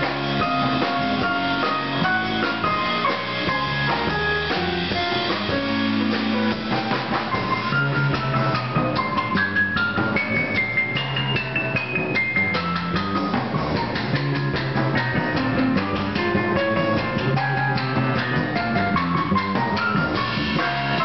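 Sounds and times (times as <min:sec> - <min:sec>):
cymbals and drums: 0:00.0 - 0:21.0
keyboard melody: 0:00.0 - 0:21.0
walking double bass: 0:00.0 - 0:21.0.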